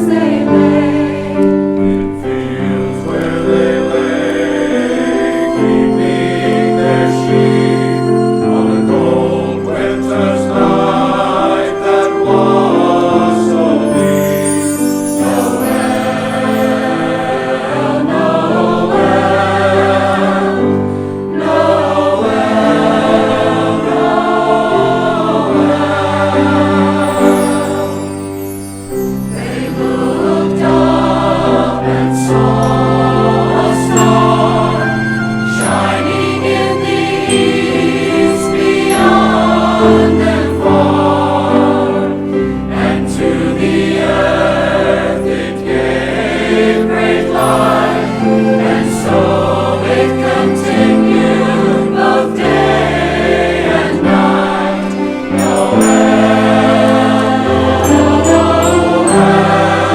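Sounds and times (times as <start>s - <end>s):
choir singing a carol: 0.0s - 59.9s
orchestral accompaniment: 0.0s - 59.9s.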